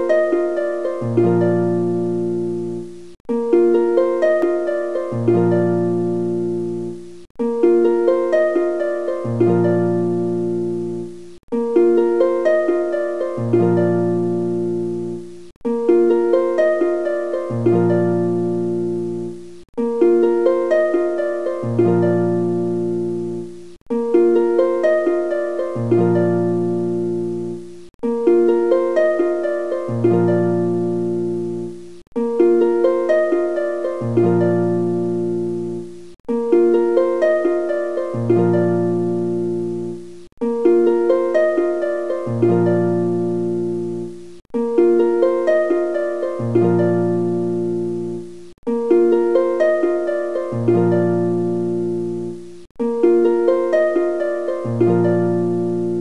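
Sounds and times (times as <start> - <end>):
looping plucked notes: 0.0 - 56.0.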